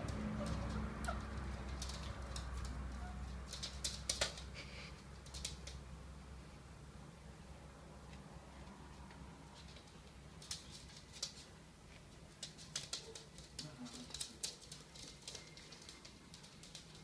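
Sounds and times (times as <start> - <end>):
dog claws clicking on floor: 0.0 - 5.9, 9.1 - 17.0.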